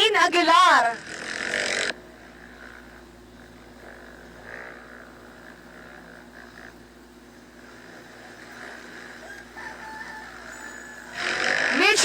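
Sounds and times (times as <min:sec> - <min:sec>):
distant dirt bikes droning: 0:00.0 - 0:12.0.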